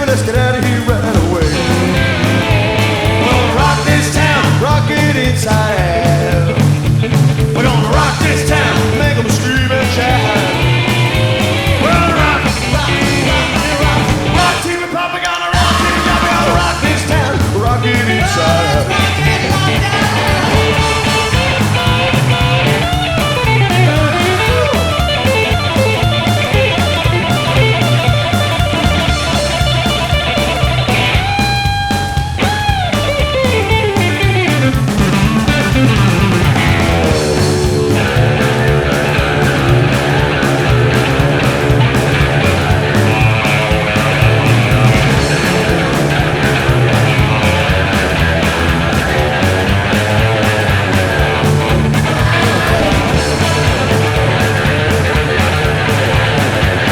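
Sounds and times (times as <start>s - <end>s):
rock music with electric guitar: 0.0s - 56.9s.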